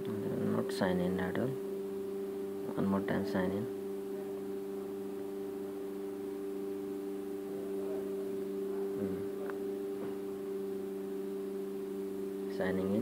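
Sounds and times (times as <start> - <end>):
electrical hum: 0.0 - 13.0
faint murmur: 2.4 - 13.0.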